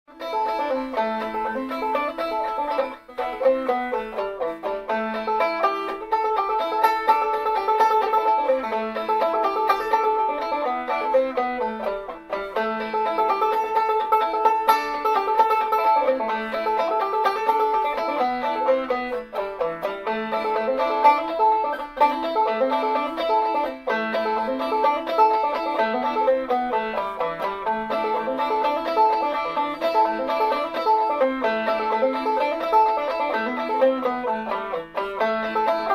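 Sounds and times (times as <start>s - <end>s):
plucked string instrument music: 0.1s - 35.9s.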